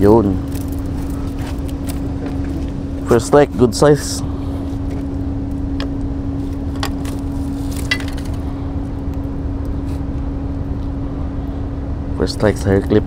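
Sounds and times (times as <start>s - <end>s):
low background rumble: 0.0s - 13.0s
mechanical hum: 0.0s - 13.0s.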